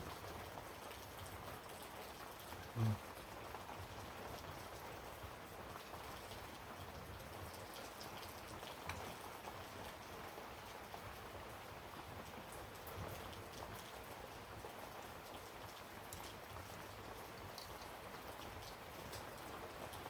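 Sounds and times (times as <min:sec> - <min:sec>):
rain-like patter: 0:00.0 - 0:20.0.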